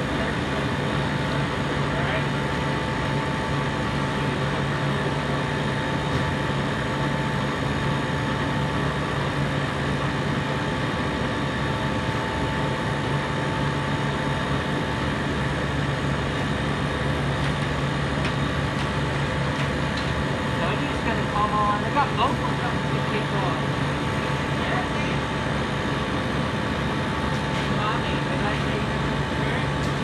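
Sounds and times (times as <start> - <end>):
compressor running: 0.0 - 30.0.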